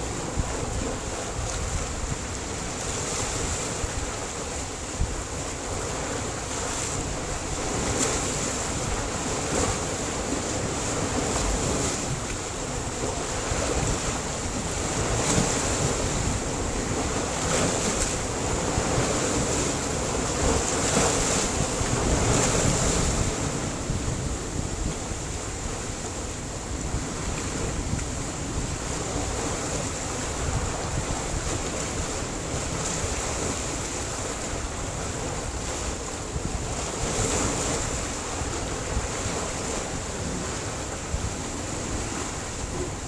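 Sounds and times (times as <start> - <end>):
waves washing onto rocks: 0.0 - 43.0.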